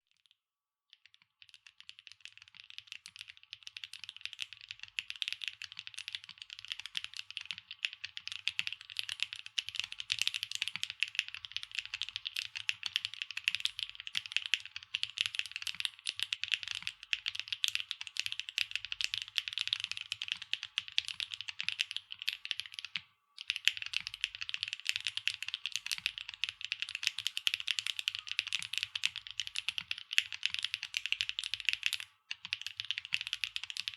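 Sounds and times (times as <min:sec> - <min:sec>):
mechanical keyboard typing: 0:01.0 - 0:33.9.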